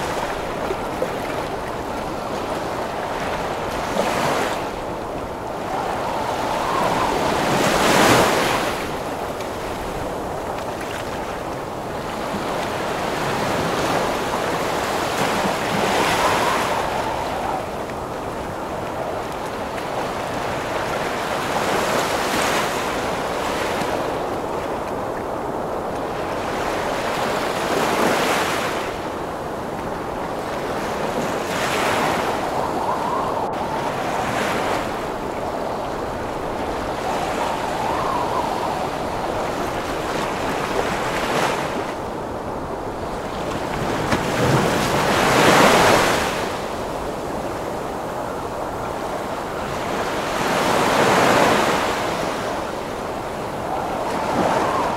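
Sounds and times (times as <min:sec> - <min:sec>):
heavy ocean waves breaking: 0:00.0 - 0:54.9
storm wind: 0:00.0 - 0:54.9.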